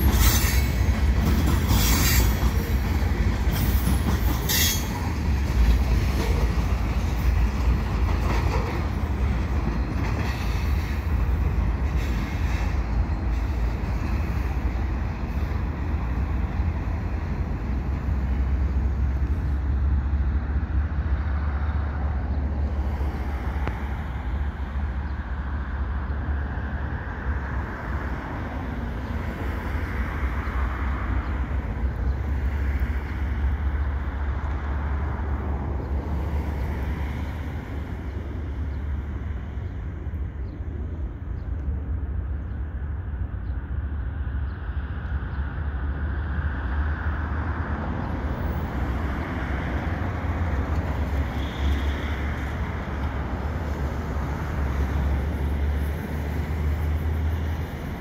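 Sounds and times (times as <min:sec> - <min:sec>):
distant diesel train rumble: 0:00.0 - 0:58.0.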